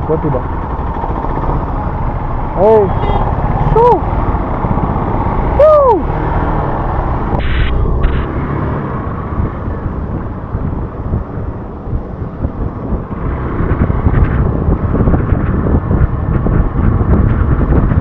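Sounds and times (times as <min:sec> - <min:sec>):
motorcycle running: 0:00.0 - 0:18.0
wind buffeting microphone: 0:00.0 - 0:18.0.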